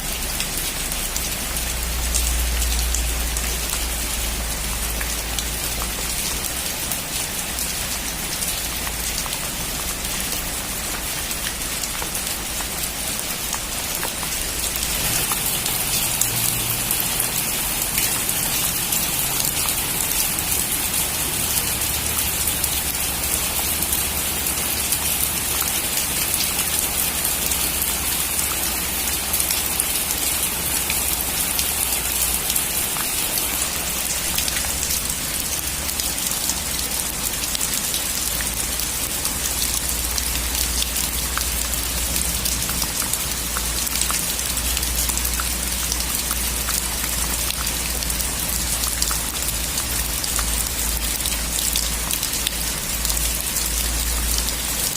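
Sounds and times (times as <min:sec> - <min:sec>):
heavy rain on a metal roof: 0:00.0 - 0:54.9.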